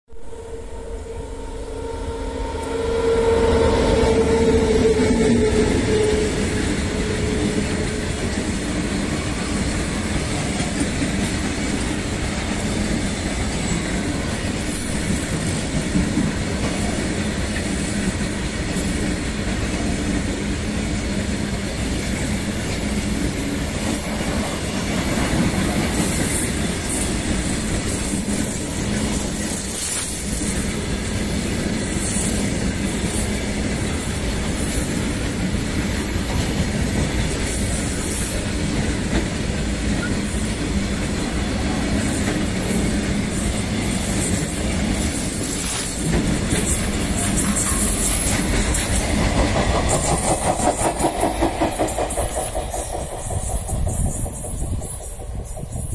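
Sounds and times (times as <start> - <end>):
high wheel squeal: 0.2 - 9.5, 17.9 - 39.1, 39.9 - 55.9
train wheels rumbling on rails: 0.2 - 55.9.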